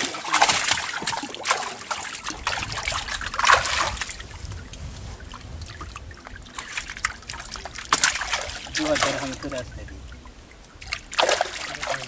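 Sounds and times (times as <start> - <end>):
water splashing and dripping: 0.0 - 12.0
water trickling: 0.0 - 12.0.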